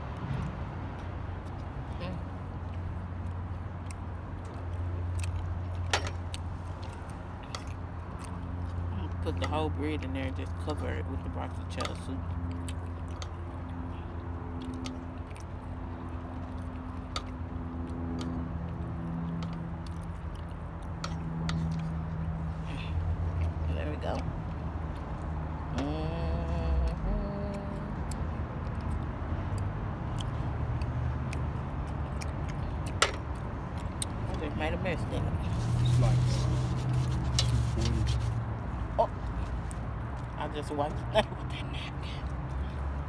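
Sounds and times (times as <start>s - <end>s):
road traffic rumble: 0.0s - 43.0s
person chewing food: 0.2s - 9.4s, 12.2s - 34.4s, 35.3s - 40.4s.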